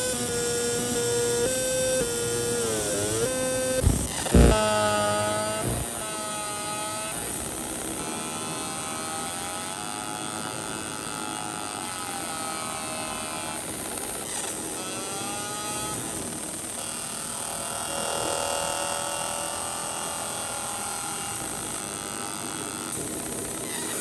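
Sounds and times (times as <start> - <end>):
laser engraving machine humming: 0.0 - 24.0.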